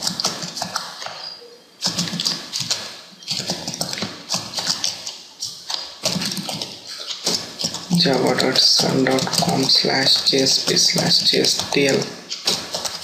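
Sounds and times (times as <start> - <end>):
typing on computer keyboard: 0.0 - 13.0.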